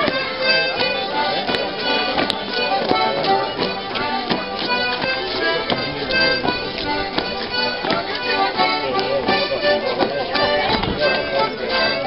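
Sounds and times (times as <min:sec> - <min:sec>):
lively folk dance tune: 0:00.0 - 0:12.0.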